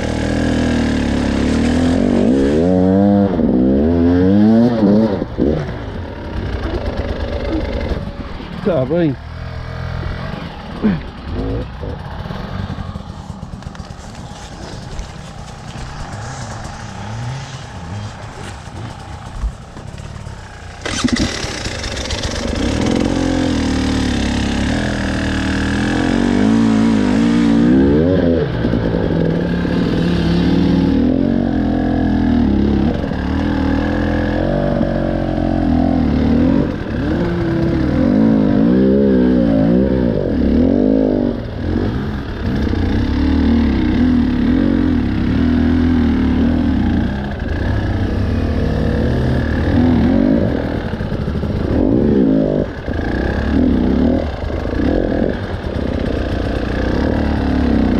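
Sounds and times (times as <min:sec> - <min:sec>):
engine revving: 0:00.0 - 0:57.9.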